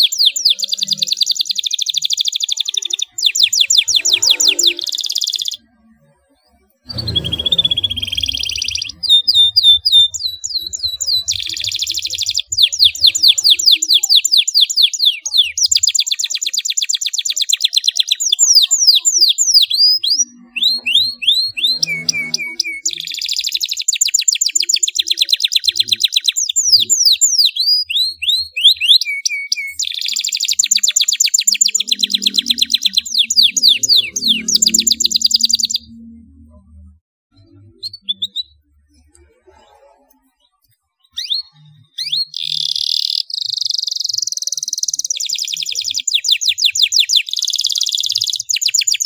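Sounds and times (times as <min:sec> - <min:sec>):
canary singing trills: 0:00.0 - 0:49.0.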